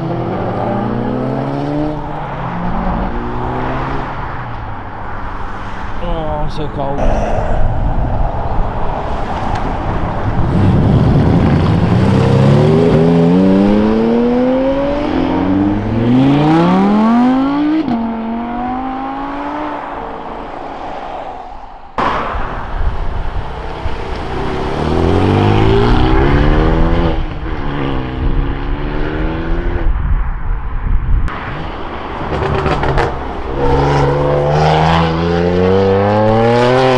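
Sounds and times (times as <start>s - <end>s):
cars accelerating hard: 0.0s - 30.0s, 31.3s - 36.9s.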